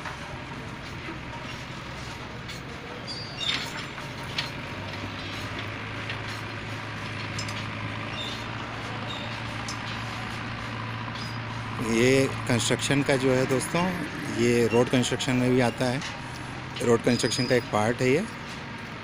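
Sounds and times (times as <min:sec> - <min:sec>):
freight train rumble and hum: 0:00.0 - 0:19.0.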